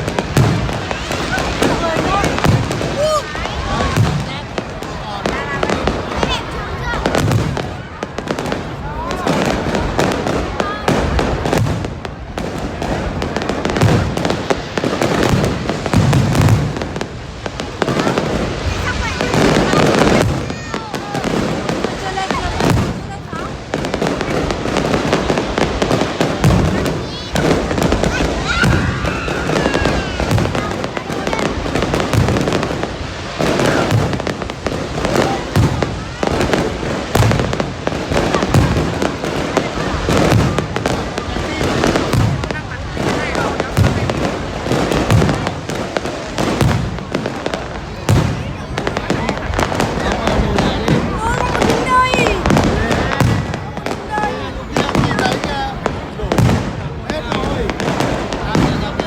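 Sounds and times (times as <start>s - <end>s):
fireworks cracking and popping: 0.0s - 59.0s.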